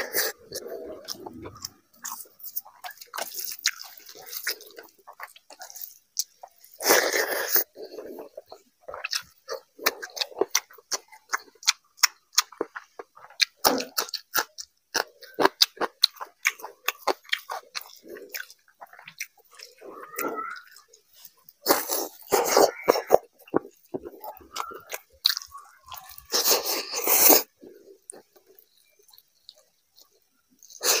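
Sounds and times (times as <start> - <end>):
wet chewing and lip-smacking: 0.0 - 31.0.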